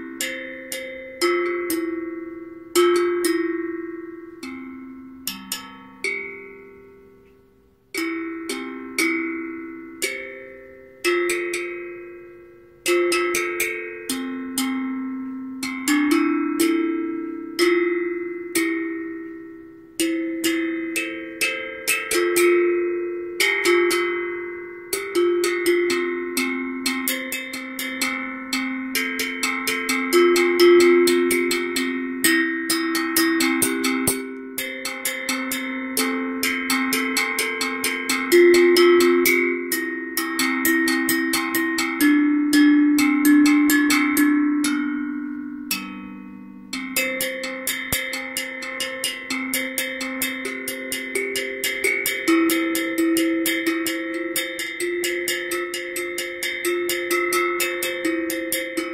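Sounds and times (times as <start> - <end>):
steel tongue drum notes: 0.0 - 58.9.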